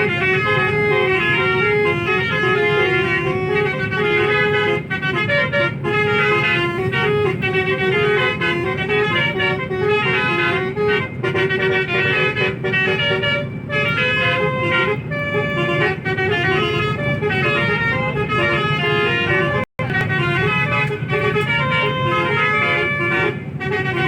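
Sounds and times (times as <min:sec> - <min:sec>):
bus engine rumble: 0:00.0 - 0:24.0
multi-tone bus horn melody: 0:00.0 - 0:24.0.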